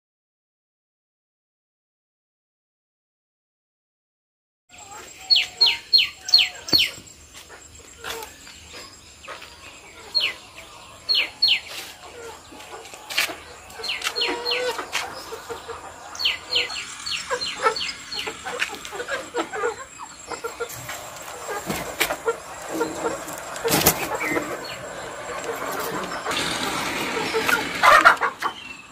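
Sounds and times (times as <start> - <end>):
chickens clucking: 4.8 - 28.9
chicks peeping: 4.8 - 28.9.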